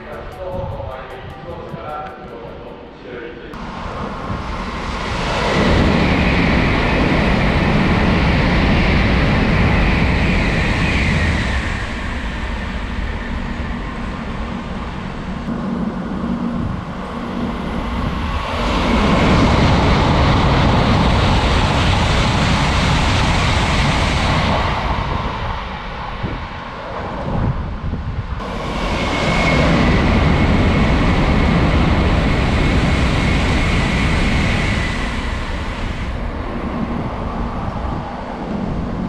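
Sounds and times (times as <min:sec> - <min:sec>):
trains passing at speed: 0:00.0 - 0:39.0.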